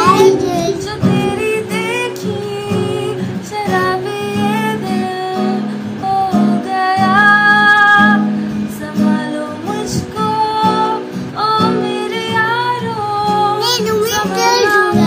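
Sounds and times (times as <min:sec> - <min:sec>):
acoustic guitar strumming: 0:00.0 - 0:15.0
girl singing: 0:00.0 - 0:15.0.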